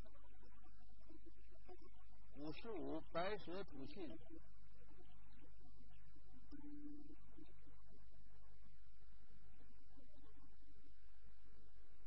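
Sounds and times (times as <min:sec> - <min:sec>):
faint tone: 0:00.0 - 0:12.0
low hum: 0:00.0 - 0:12.0.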